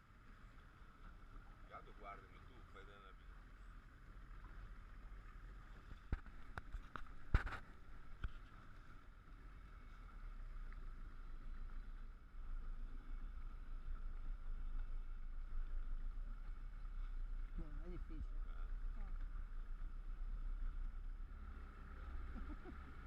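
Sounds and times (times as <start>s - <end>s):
speedboat engine and water rumble: 0.0s - 23.0s.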